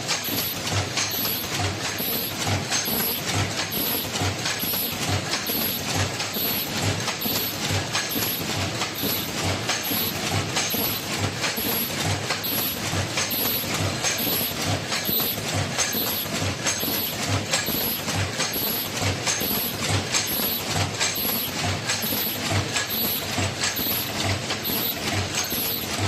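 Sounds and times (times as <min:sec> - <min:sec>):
mask making machine clattering: 0:00.0 - 0:26.0.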